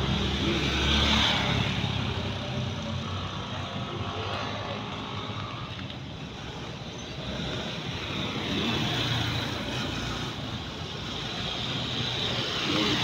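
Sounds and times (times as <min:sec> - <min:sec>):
steady road noise: 0:00.0 - 0:13.0.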